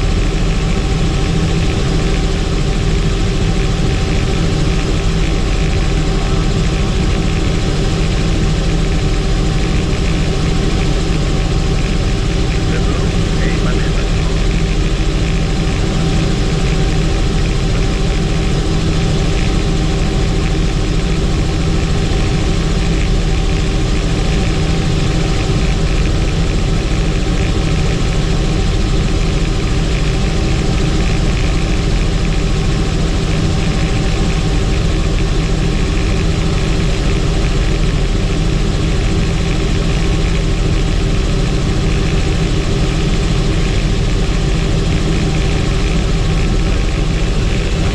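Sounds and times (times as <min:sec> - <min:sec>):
helicopter engine and rotor noise: 0:00.0 - 0:47.9.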